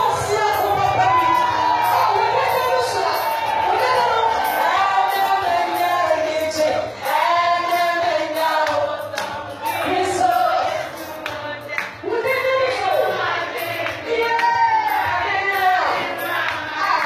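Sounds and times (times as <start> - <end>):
amplified backing music: 0.0 - 17.0
woman singing into a microphone: 0.0 - 17.0.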